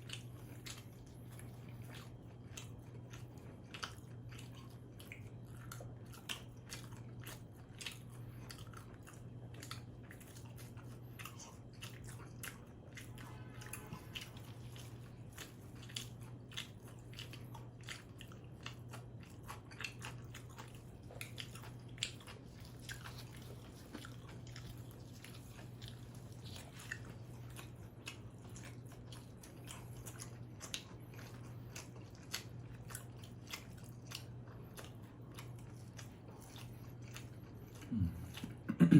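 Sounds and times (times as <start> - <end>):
biting and chewing pizza: 0.0 - 38.9
steady low hum: 0.0 - 38.9.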